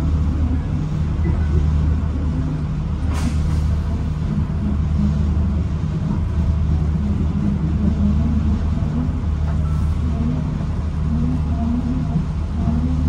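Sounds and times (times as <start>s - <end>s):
train engine drone: 0.0s - 13.0s
wheels rumbling on track: 0.0s - 13.0s.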